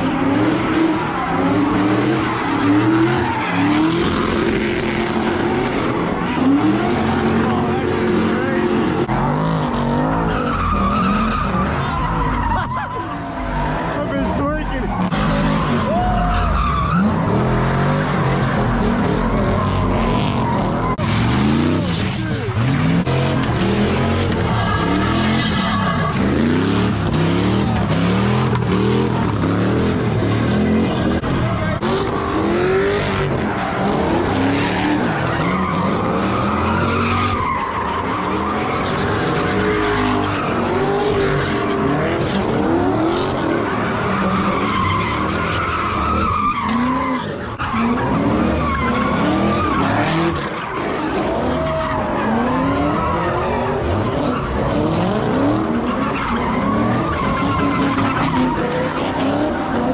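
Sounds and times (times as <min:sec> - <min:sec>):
car engines revving: 0:00.0 - 0:59.9
tyres squealing: 0:00.0 - 0:59.9.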